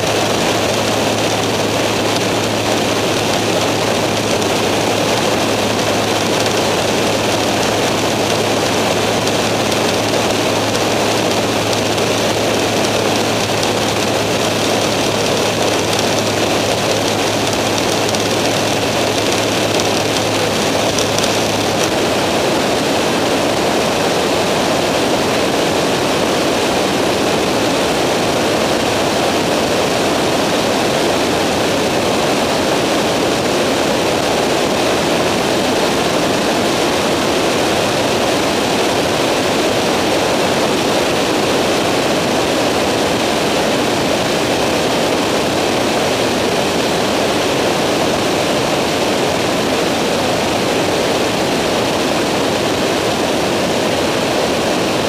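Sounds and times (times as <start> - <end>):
airflow rush on microphone: 0.0 - 55.0
microlight engine drone: 0.0 - 55.0.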